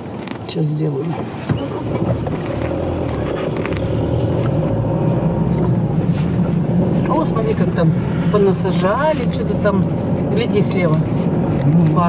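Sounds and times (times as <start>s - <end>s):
road noise inside car: 0.0s - 12.0s
car engine accelerating: 1.1s - 12.0s.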